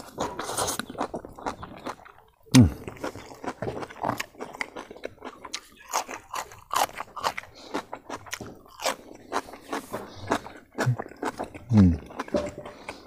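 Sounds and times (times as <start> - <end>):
man chewing with wet smacks: 0.0 - 13.0.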